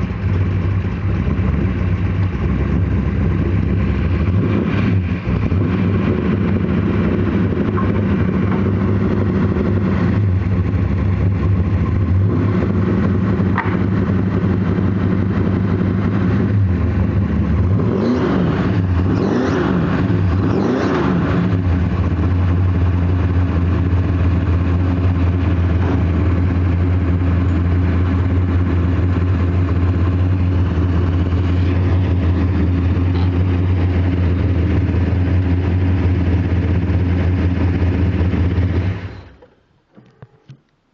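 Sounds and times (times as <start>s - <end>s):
car engine idling loudly: 0.0s - 39.4s
engine revving throttle blips: 0.0s - 39.4s.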